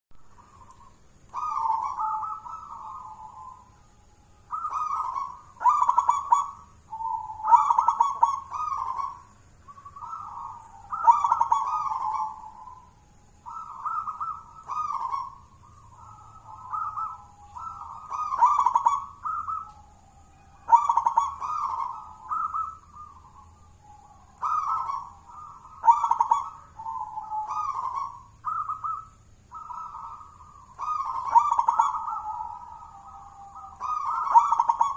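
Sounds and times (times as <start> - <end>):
dove cooing: 0.2 - 34.9.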